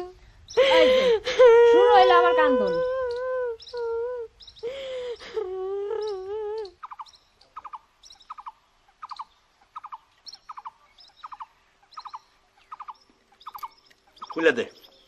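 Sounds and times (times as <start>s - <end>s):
small bird chirping: 0.0s - 0.9s, 1.9s - 15.0s.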